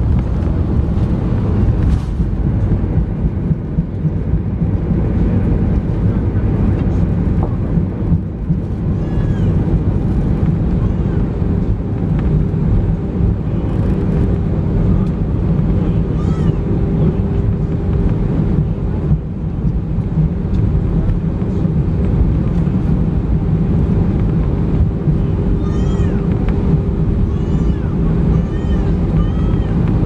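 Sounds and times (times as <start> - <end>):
constant cabin hum: 0.0 - 30.0
low rumble of engines and wheels: 0.0 - 30.0.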